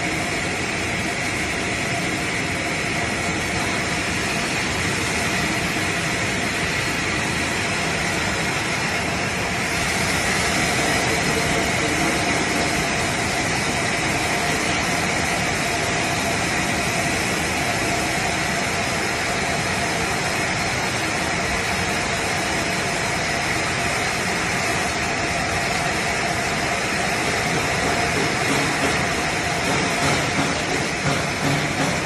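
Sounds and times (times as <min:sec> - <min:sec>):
machine whirring and hissing: 0:00.0 - 0:32.0.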